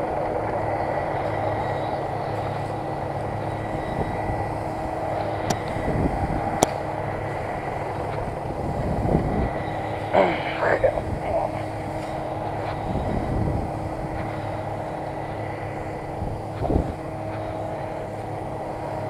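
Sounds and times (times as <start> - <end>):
thin steady whine: 0.0 - 19.0
tractor diesel engine running: 0.0 - 19.0.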